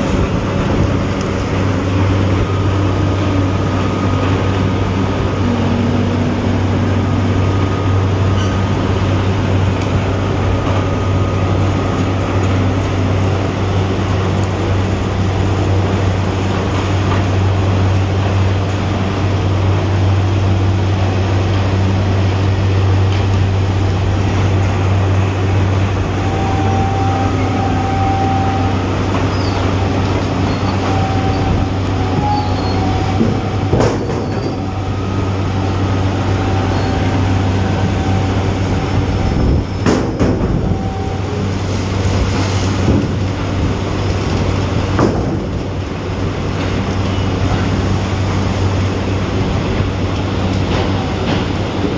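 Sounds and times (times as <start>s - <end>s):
machinery humming: 0.0s - 51.9s.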